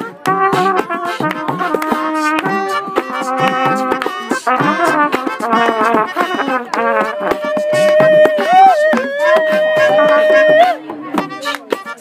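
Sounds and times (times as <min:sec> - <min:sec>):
hand drums: 0:00.0 - 0:12.0
people clapping: 0:00.0 - 0:12.0
trumpet melody: 0:00.0 - 0:12.0.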